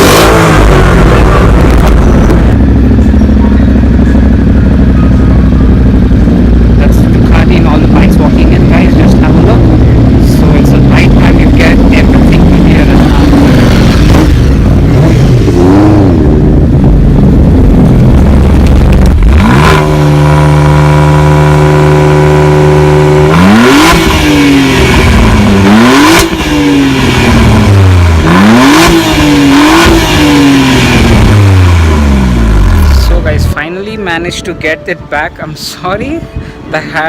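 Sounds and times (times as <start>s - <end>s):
car exhaust idling and revving: 0.0s - 34.2s.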